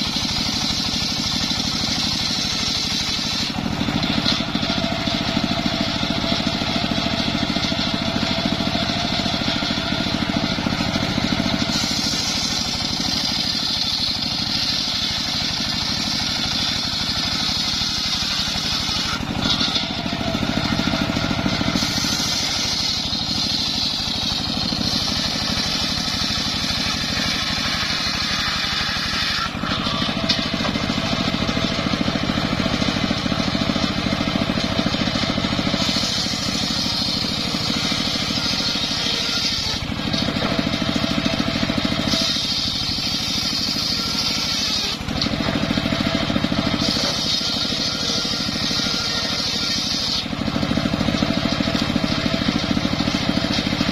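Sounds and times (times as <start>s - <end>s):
engine low drone: 0.0s - 53.9s
saw blade cutting wood: 0.0s - 53.9s.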